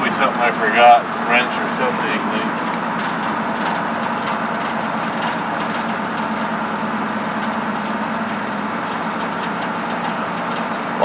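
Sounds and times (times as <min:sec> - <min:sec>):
road and wind noise: 0:00.0 - 0:11.0
truck engine drone: 0:00.0 - 0:11.0.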